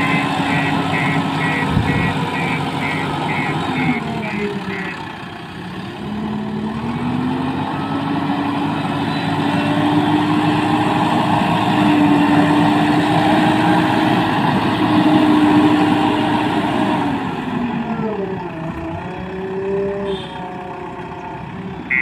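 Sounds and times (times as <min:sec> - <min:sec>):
heavy diesel engine revving: 0:00.0 - 0:22.0.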